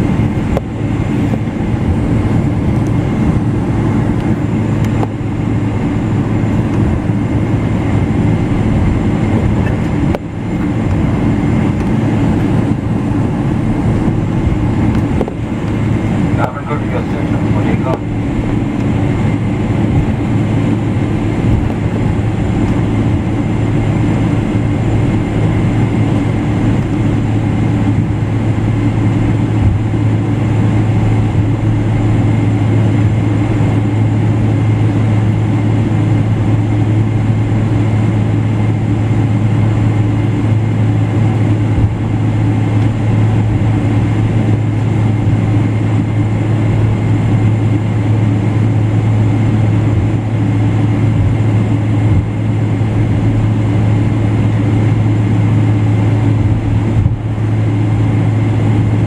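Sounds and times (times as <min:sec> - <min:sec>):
jet engine droning: 0:00.0 - 0:59.0.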